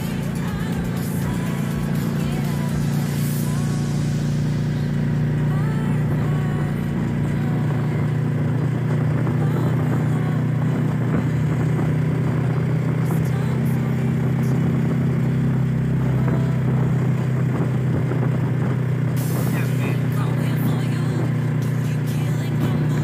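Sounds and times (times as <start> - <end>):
road and wind noise: 0.0 - 23.0
vehicle engine droning: 0.0 - 23.0.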